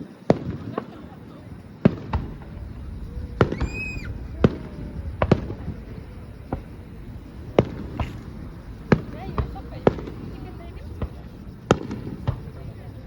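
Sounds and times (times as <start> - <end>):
fireworks exploding: 0.0 - 13.0
high firework whistle: 0.0 - 13.0.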